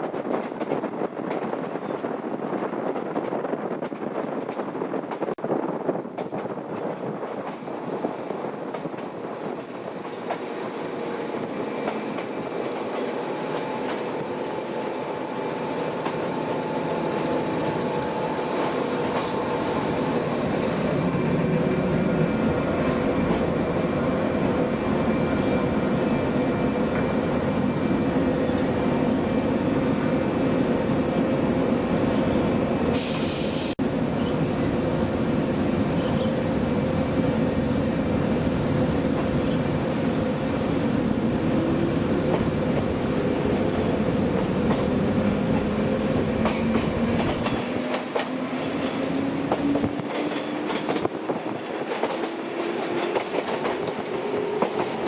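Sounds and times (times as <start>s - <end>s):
electric train on rails: 0.0s - 55.0s.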